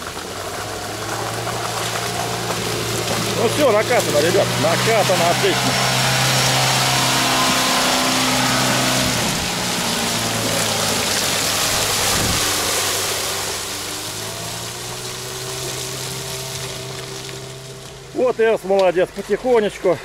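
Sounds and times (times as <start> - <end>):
car engine at low revs: 0.0 - 20.0.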